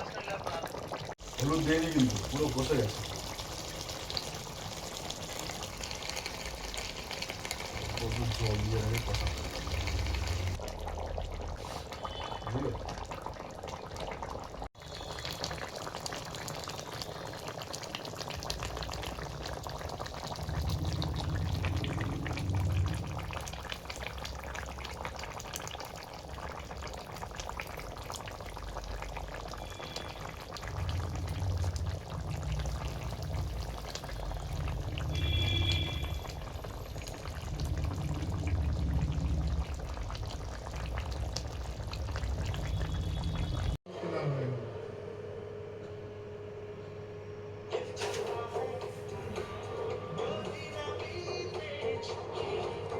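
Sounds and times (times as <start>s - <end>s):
curry bubbling and sizzling in a pan: 0.0s - 43.8s.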